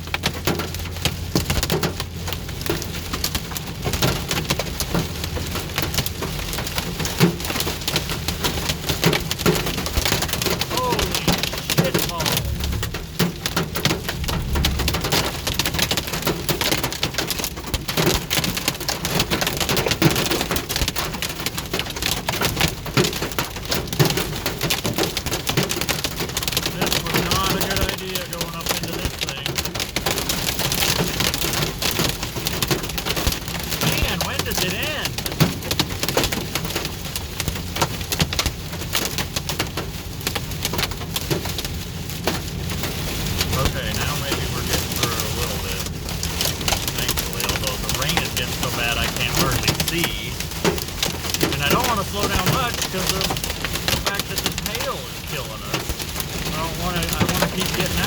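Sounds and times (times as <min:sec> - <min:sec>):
car rumbling on road: 0:00.0 - 0:58.0
hail and rain on vehicle roof: 0:00.0 - 0:58.0.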